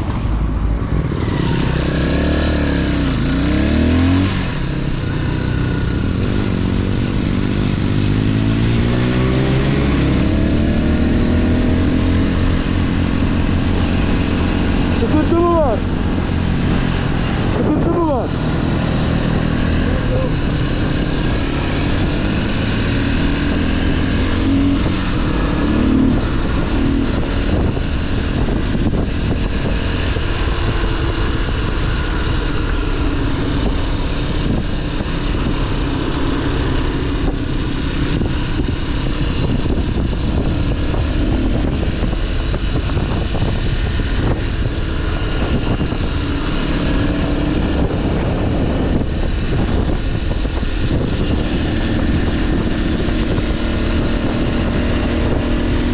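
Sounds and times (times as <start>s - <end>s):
motorcycle engine running: 0.0s - 55.9s
wind rush on microphone: 0.0s - 55.9s.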